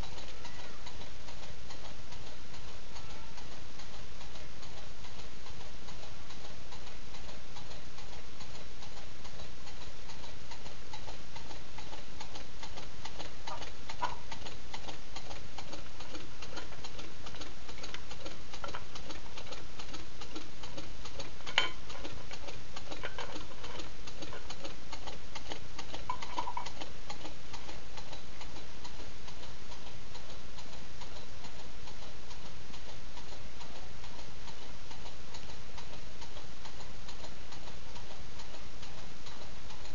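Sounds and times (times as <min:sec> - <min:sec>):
small engine fast ticking: 0:00.0 - 0:39.9.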